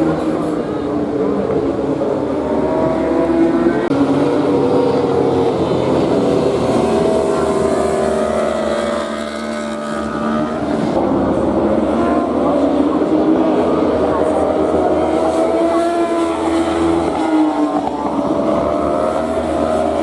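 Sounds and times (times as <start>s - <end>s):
racing motorcycles revving: 0.0s - 20.0s.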